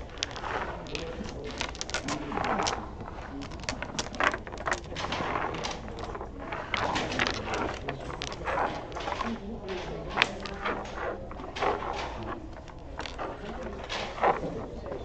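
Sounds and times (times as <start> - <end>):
dominoes clicking on wooden table: 0.0 - 15.0.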